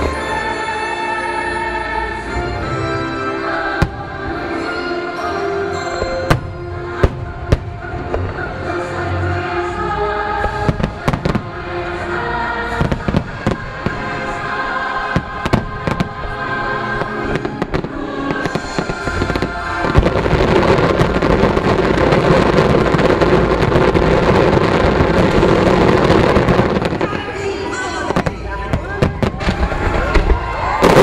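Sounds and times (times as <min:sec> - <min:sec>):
music: 0:00.0 - 0:31.0
fireworks crackling and booming: 0:03.6 - 0:09.7, 0:10.3 - 0:31.0
fireworks bangs: 0:03.8 - 0:09.0, 0:10.4 - 0:31.0.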